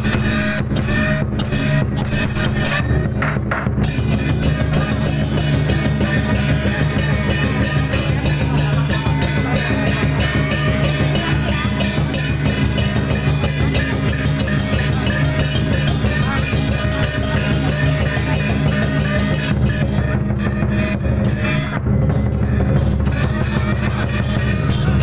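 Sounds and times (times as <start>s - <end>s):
heavy bass line: 0.0s - 25.0s
loud music with fast drumming: 0.0s - 25.0s.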